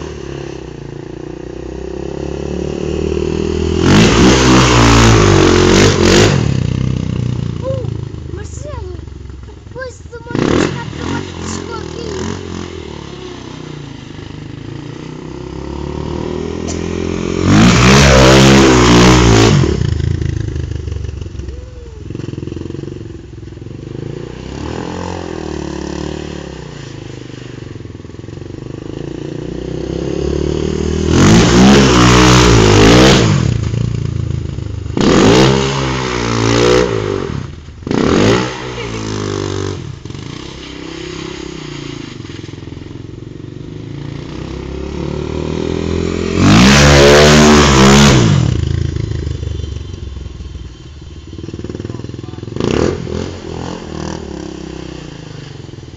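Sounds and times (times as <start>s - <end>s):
quad bike engine revving: 0.0s - 50.4s, 51.3s - 55.9s.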